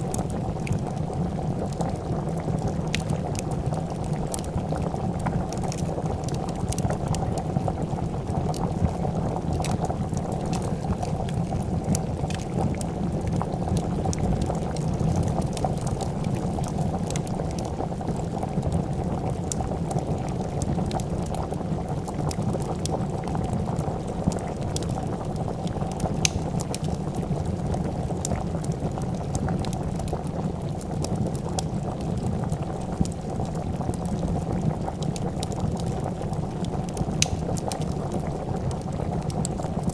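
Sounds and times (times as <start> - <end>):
soup boiling and bubbling: 0.0 - 39.9
wood fire crackling: 0.0 - 39.9.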